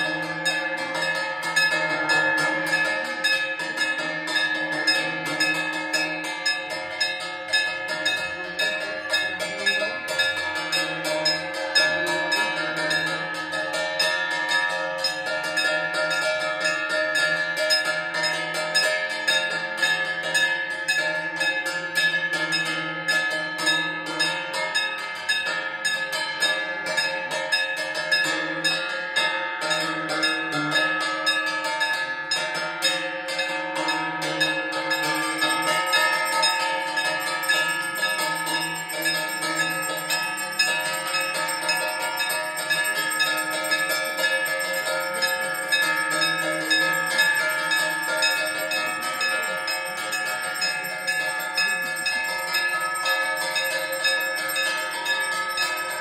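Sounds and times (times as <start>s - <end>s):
temple bells ringing: 0.0s - 56.0s.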